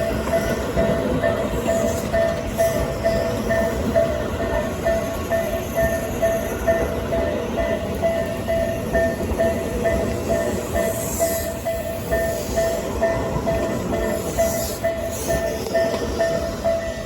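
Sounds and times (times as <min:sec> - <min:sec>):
level-crossing warning bell: 0:00.0 - 0:17.0
train wheels rumbling on rails: 0:00.0 - 0:17.0.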